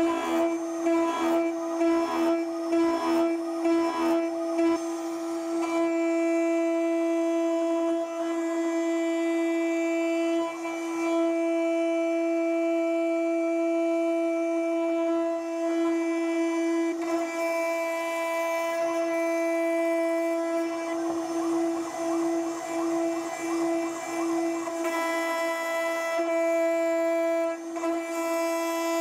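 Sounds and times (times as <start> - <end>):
router spindle high-pitched whine: 0.0 - 29.0.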